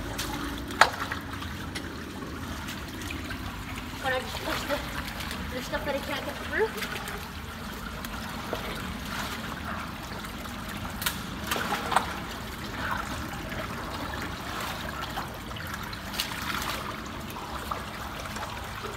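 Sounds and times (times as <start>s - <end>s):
splashes and knocks: 0.0s - 18.9s
water trickling and sloshing: 0.0s - 18.9s.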